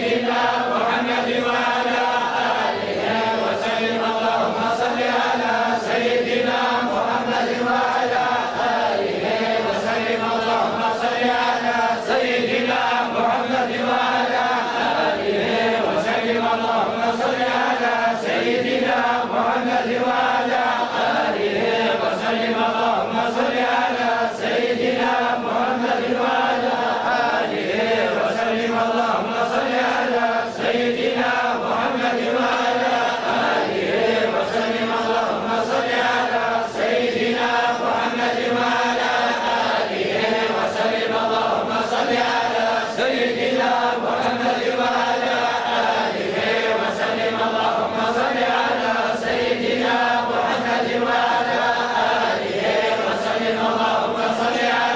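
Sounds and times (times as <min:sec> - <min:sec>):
men chanting in unison: 0:00.0 - 0:54.9.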